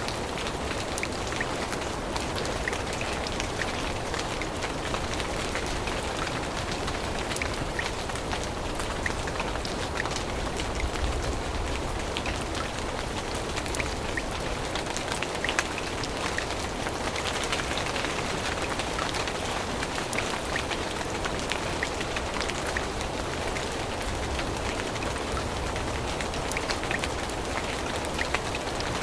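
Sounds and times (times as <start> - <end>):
rain falling on foliage: 0.0 - 29.0.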